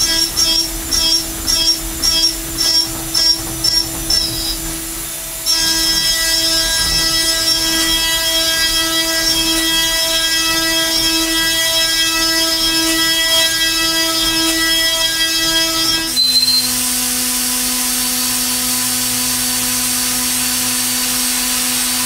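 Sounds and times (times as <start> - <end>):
mill cutting metal: 0.0 - 22.0.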